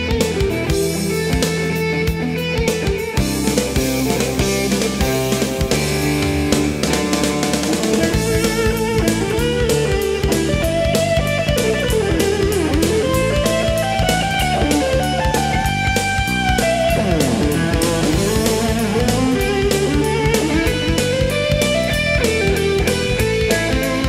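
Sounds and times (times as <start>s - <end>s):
rock music with electric guitar: 0.0s - 24.0s.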